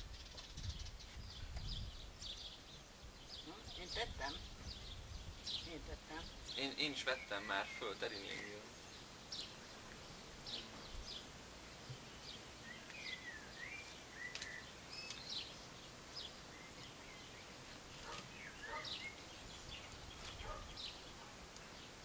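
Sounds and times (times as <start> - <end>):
faint steady background hiss: 0.0 - 22.0
small birds chirping: 0.0 - 22.0.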